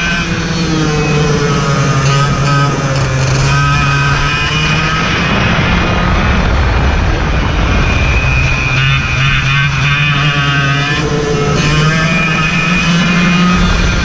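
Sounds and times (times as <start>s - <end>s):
race car engine running: 0.0s - 14.0s
wind rush on microphone: 0.0s - 14.0s.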